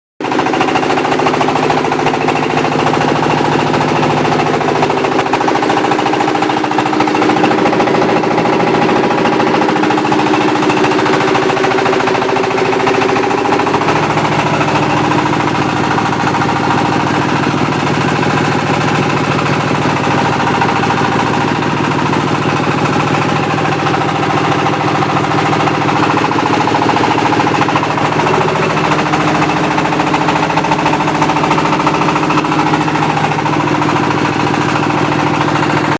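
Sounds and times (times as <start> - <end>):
machine droning and rattling: 0.2 - 35.9.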